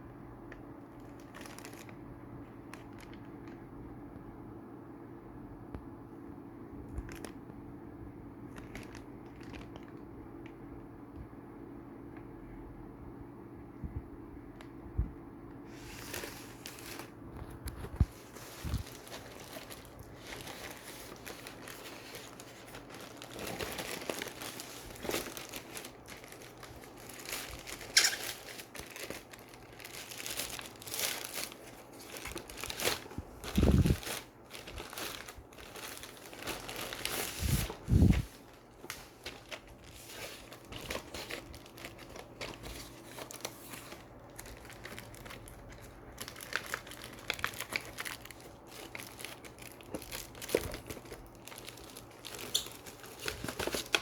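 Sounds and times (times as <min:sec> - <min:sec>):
packaging crinkling and tearing: 0:00.9 - 0:03.6, 0:06.9 - 0:07.4, 0:08.4 - 0:10.5, 0:15.7 - 0:54.0.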